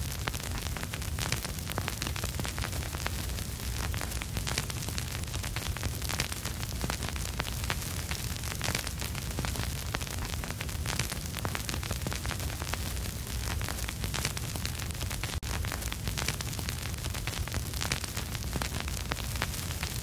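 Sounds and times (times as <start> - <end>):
steady hiss: 0.0 - 20.0
vinyl crackles and pops: 0.0 - 20.0.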